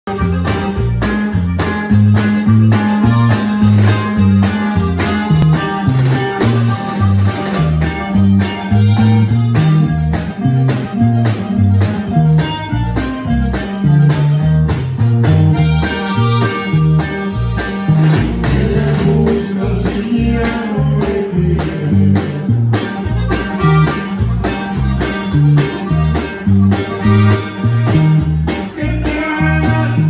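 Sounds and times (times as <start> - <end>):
acoustic guitar: 0.1 - 30.0
button accordion: 0.1 - 30.0
electric bass: 0.1 - 30.0.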